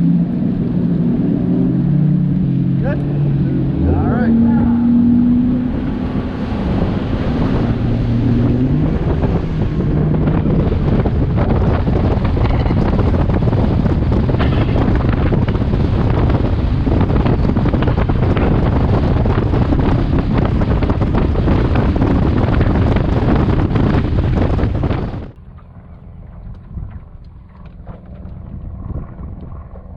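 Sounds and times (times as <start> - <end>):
outboard motor accelerating: 0.0 - 29.9
water noise: 0.0 - 29.9
wind buffeting microphone: 0.0 - 29.9.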